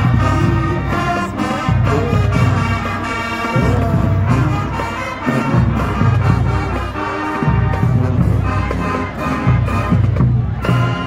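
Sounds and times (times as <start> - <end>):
marching band playing: 0.0 - 11.0
sousaphones low brass notes: 0.0 - 11.0.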